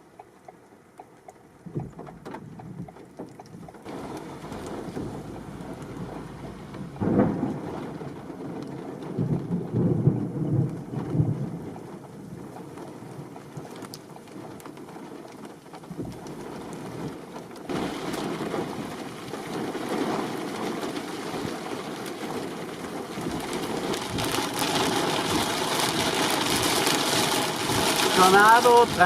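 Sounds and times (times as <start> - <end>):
heavy rain in a storm: 3.8 - 29.0.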